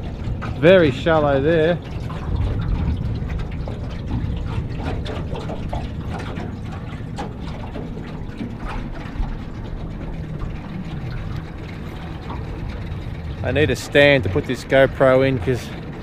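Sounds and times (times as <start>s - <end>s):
low rumble: 0.0s - 16.0s
water splashing against boat hull: 0.0s - 16.0s.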